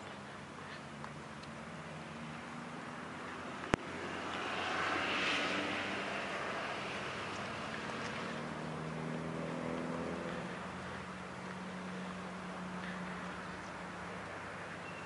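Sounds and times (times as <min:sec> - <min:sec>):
propeller aircraft engine: 0:00.0 - 0:15.0.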